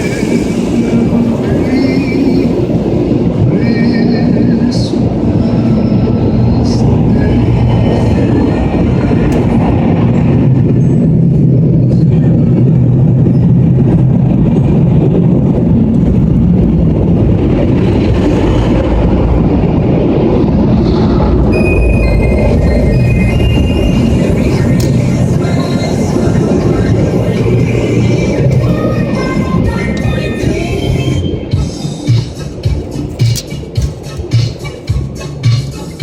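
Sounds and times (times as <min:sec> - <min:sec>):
car wash machinery rumbling: 0:00.0 - 0:36.0.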